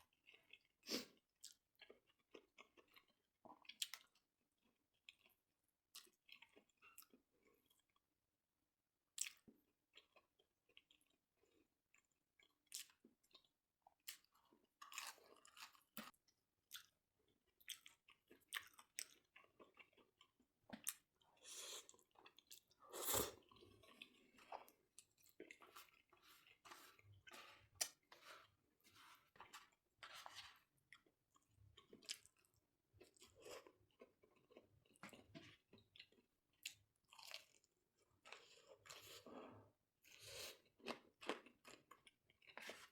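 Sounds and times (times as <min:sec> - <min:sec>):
person chewing and crunching: 0:00.0 - 0:08.0, 0:09.2 - 0:42.9.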